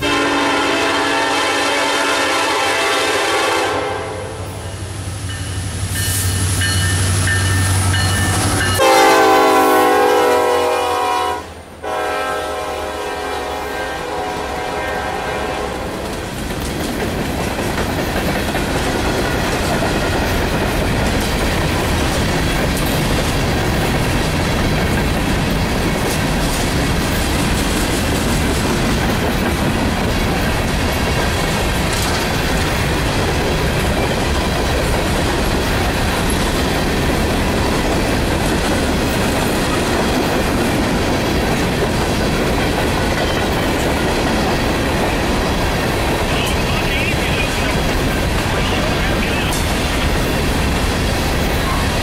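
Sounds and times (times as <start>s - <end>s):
freight train wheels on rails: 0.0s - 52.0s.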